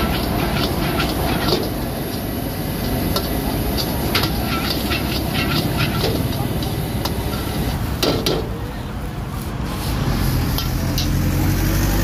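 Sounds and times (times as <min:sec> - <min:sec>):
metal utensils scraping a wok: 0:00.0 - 0:08.6, 0:09.6 - 0:11.6
steady rushing noise: 0:00.0 - 0:10.8.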